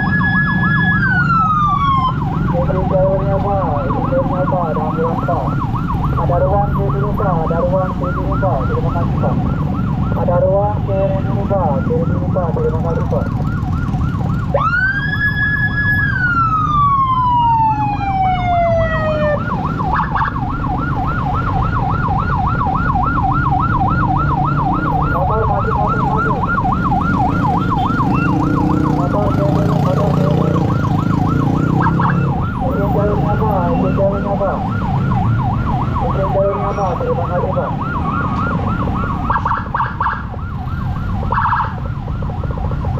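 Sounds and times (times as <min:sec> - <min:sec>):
emergency siren yelping and wailing: 0:00.0 - 0:42.9
low rumble of engines: 0:00.0 - 0:42.9.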